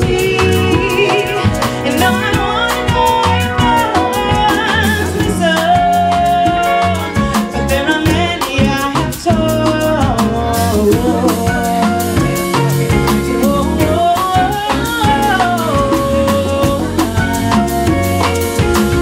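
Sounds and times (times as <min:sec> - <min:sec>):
drum kit: 0:00.0 - 0:19.0
electric guitar: 0:00.0 - 0:19.0
woman singing: 0:00.0 - 0:19.0.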